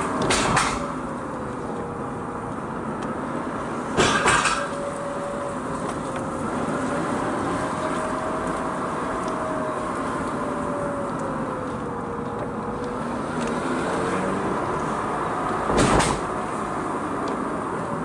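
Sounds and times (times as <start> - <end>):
car engine from inside cabin: 0.0 - 18.0
road noise: 0.0 - 18.0.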